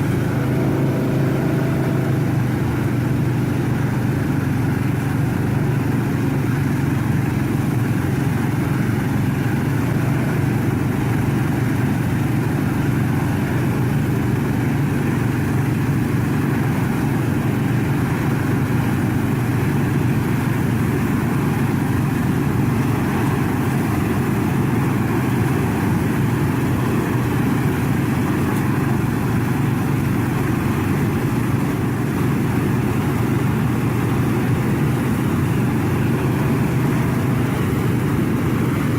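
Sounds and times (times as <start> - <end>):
heavy engine humming: 0.0 - 38.9.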